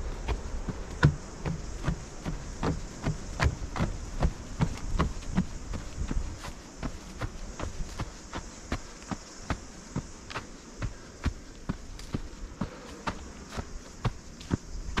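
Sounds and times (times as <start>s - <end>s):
runner's footfalls on trail: 0.0s - 15.0s
steady hiss: 0.0s - 15.0s.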